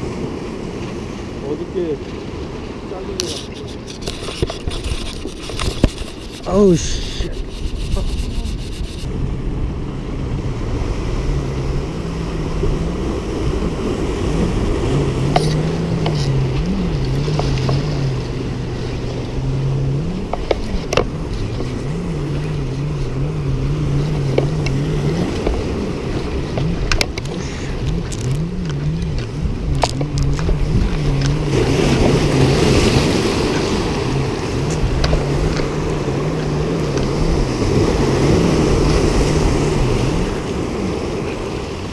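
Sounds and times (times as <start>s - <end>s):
boat engine droning: 0.0s - 41.9s
surf washing against rocks: 0.0s - 41.9s
wind on the microphone: 2.4s - 41.9s.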